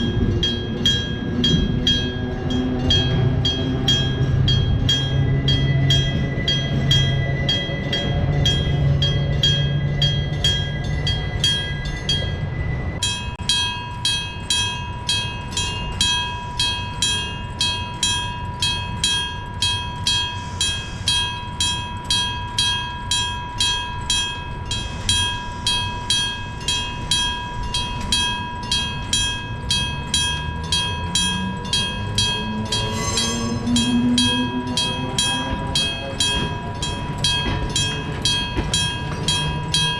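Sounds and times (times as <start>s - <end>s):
level crossing bell ringing: 0.0s - 39.9s
low train drone: 0.0s - 39.9s.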